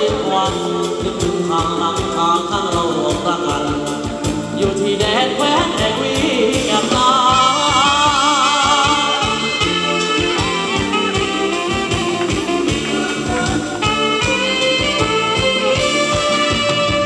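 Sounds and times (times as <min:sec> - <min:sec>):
live amplified band music: 0:00.0 - 0:17.0
steady drum beat: 0:00.0 - 0:17.0.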